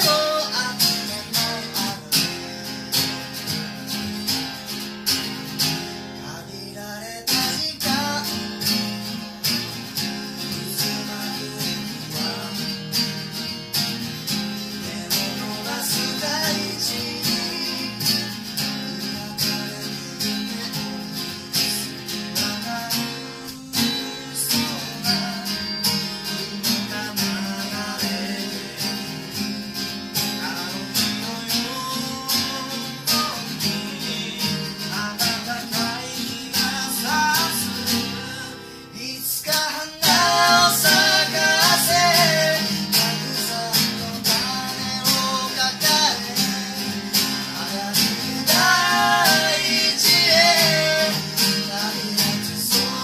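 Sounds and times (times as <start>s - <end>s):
man singing: 0.0s - 3.5s, 6.1s - 9.2s, 10.2s - 13.4s, 14.3s - 53.0s
acoustic guitars strummed: 0.0s - 53.0s.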